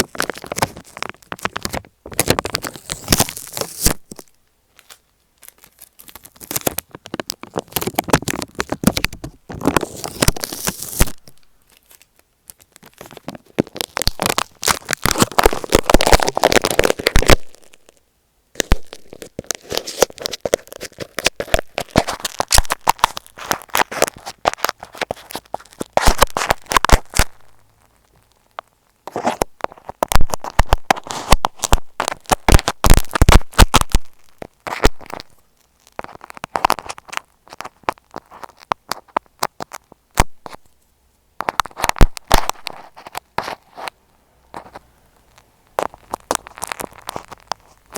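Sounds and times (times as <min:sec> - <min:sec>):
tape crackling on a microphone: 0:00.0 - 0:47.9.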